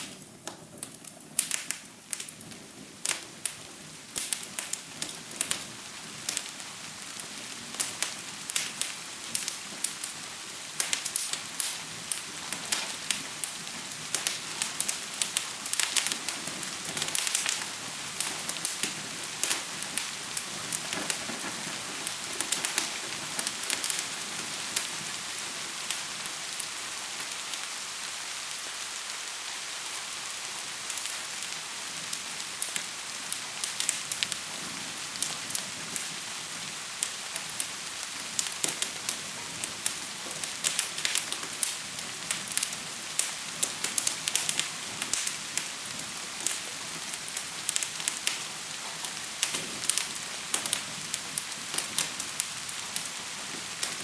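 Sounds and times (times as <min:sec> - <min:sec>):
fire crackling: 0:00.0 - 0:54.0
gentle rain hiss: 0:00.0 - 0:54.0.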